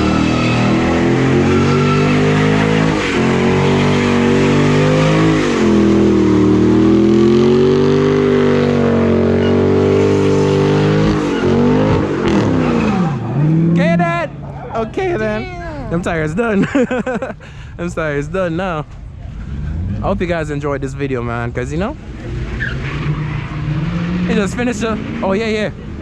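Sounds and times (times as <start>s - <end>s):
car engine revving high: 0.0s - 16.5s, 19.2s - 26.0s
tires squealing: 0.0s - 17.2s, 18.1s - 26.0s.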